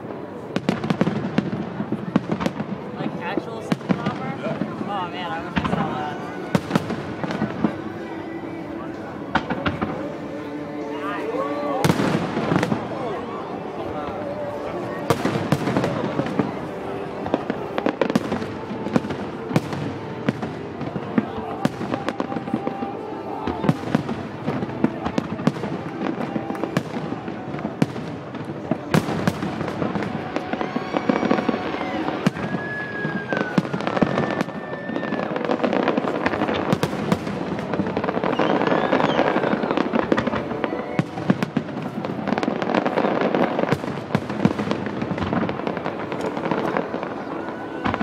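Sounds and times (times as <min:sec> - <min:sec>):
fireworks bangs and crackling: 0:00.0 - 0:48.0
music playing: 0:04.0 - 0:43.8.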